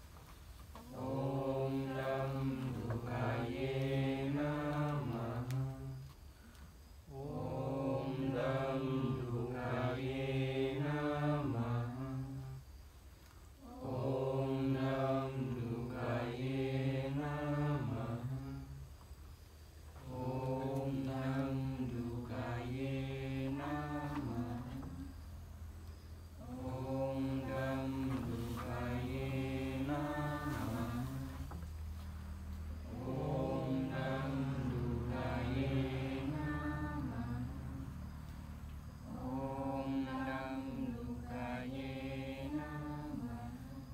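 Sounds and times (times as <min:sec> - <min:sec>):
person chanting: 0:00.8 - 0:06.3, 0:07.1 - 0:12.8, 0:13.6 - 0:19.0, 0:20.0 - 0:25.3, 0:26.4 - 0:31.7, 0:32.8 - 0:38.2, 0:38.9 - 0:43.9.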